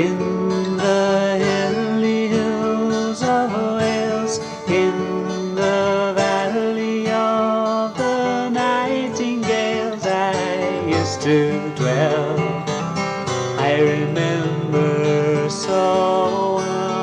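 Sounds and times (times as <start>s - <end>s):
acoustic guitar song: 0.0s - 17.0s.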